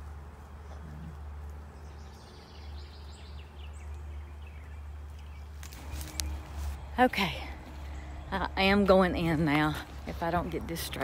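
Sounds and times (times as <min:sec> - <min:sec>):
faint birdsong: 0:00.0 - 0:11.0
steady low rumble: 0:00.0 - 0:11.0.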